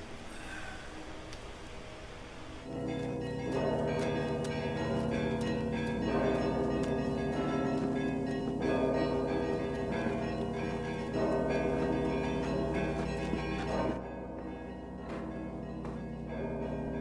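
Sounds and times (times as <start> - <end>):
large bell tolling: 2.7 - 17.0
small bells ringing: 2.7 - 17.0.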